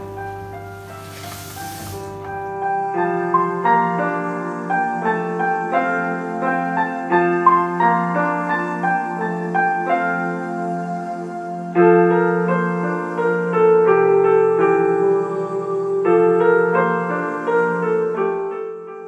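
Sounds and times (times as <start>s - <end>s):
soft piano piece: 0.0s - 19.0s.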